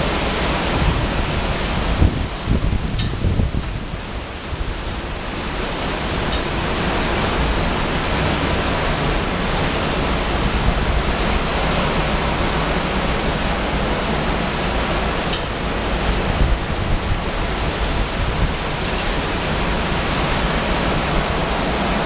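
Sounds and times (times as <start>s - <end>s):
driving rain: 0.0s - 22.0s
wind blowing through trees: 0.0s - 22.0s
wind buffeting microphone: 0.0s - 22.0s.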